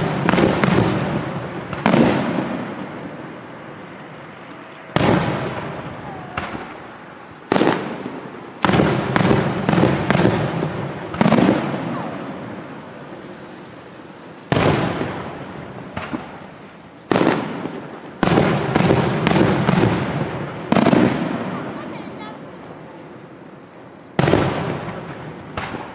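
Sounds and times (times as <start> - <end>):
fireworks bursting with echo: 0.0 - 25.9.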